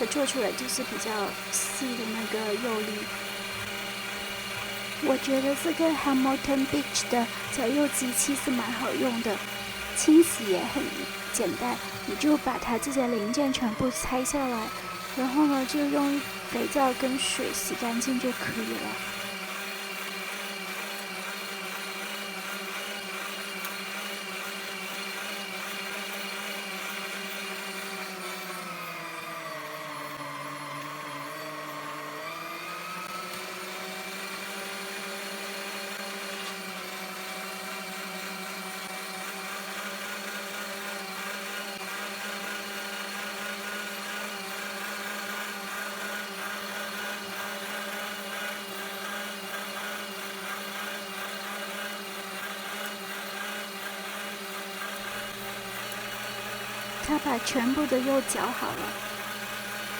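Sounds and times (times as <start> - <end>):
meat grinder motor humming: 0.0 - 59.9.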